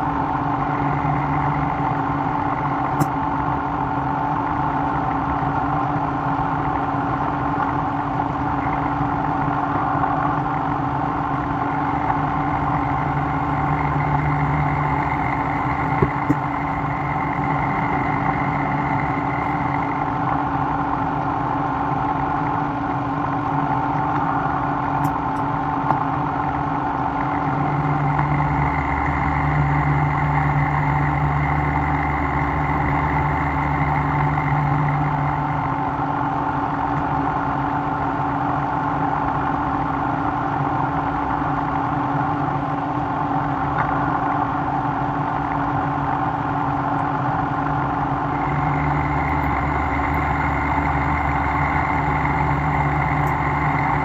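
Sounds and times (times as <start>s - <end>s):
deep low hum: 0.0s - 54.0s
machine humming: 0.0s - 54.0s.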